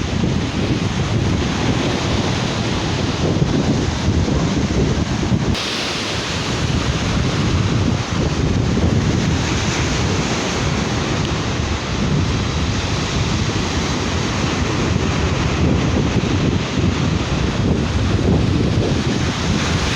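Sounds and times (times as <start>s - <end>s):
surf washing onto beach: 0.0s - 19.9s
wind buffeting microphone: 0.0s - 19.9s.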